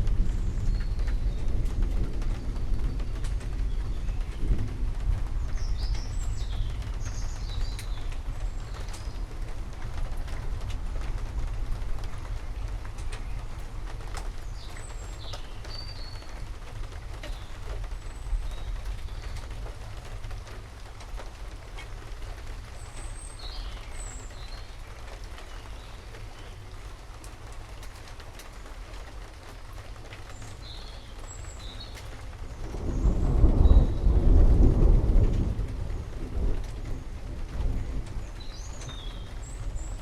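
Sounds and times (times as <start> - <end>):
thunder rumble: 0.0 - 27.5, 29.5 - 40.0
rain pattering: 0.0 - 40.0
birds chirping: 0.3 - 10.4, 11.1 - 20.6, 21.2 - 34.6, 35.9 - 40.0.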